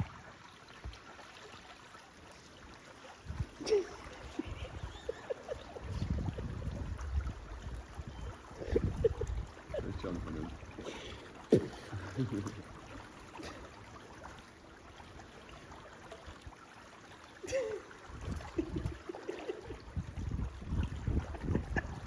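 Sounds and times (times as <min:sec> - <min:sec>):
pool water trickling and lapping: 0:00.0 - 0:22.0.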